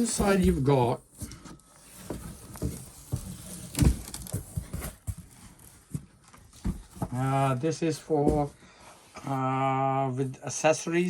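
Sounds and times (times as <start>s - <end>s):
cardboard packaging rustling: 0.0s - 9.3s.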